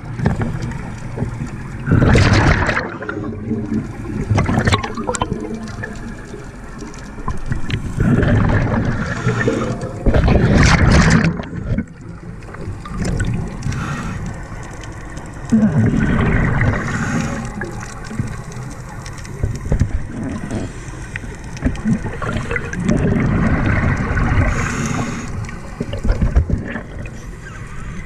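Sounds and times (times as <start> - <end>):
low underwater rumble: 0.0 - 28.0
underwater exhaled bubbles gurgling: 0.0 - 28.0.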